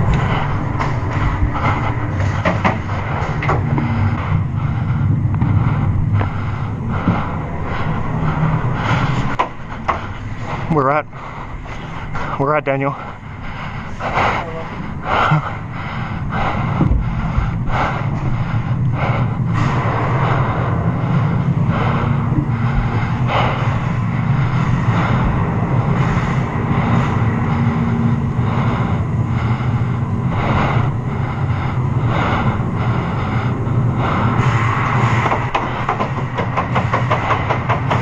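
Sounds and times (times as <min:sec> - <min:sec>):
low hum: 0:00.0 - 0:38.0
person breathing: 0:00.0 - 0:38.0.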